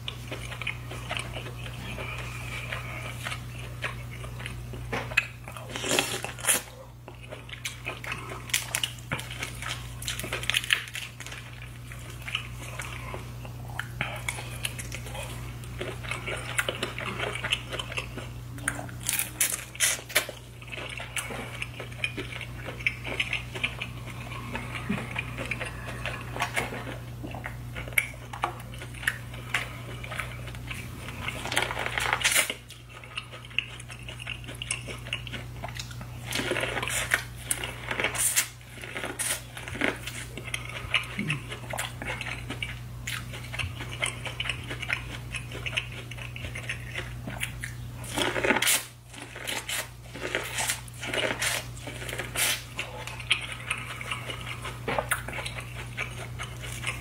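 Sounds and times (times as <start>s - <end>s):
person biting and chewing: 0.0s - 57.0s
steady low hum: 0.0s - 57.0s.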